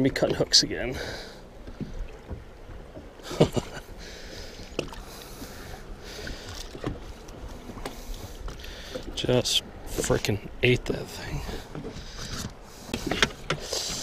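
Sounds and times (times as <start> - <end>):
small waves lapping against boat: 0.0 - 14.0.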